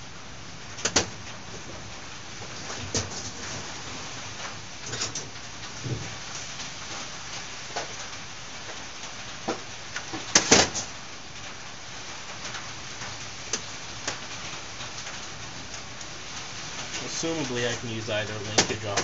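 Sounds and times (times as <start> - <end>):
pouring rain: 0.0 - 19.0.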